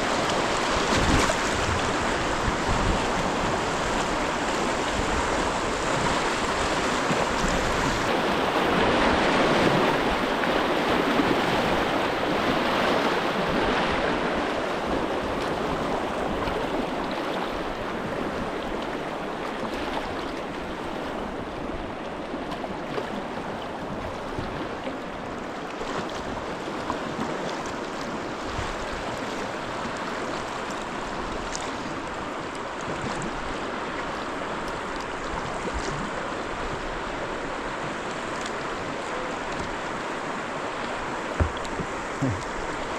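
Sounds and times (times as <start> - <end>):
river current rushing: 0.0 - 42.9.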